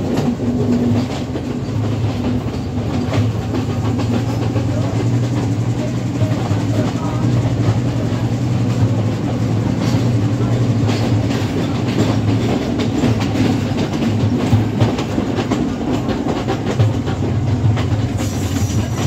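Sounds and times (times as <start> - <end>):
locomotive low drone: 0.0 - 19.0
wheels rumbling on rails: 0.0 - 19.0.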